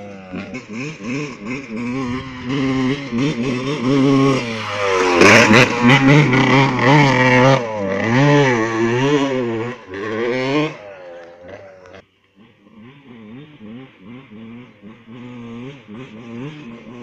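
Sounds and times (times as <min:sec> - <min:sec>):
motocross bike revving: 0:00.0 - 0:17.0.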